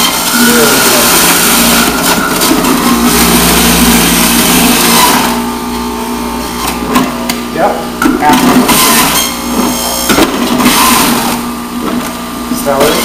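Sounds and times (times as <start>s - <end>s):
electric juicer motor grinding: 0.0s - 13.0s.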